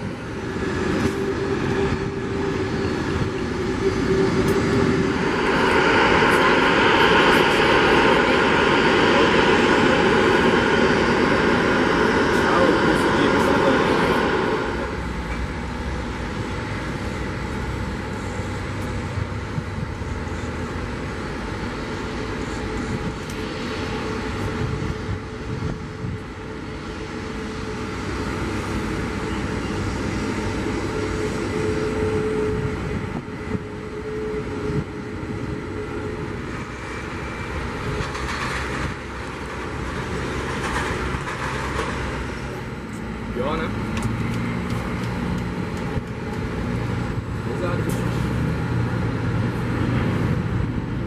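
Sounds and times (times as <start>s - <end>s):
jet engines idling: 0.0s - 51.0s.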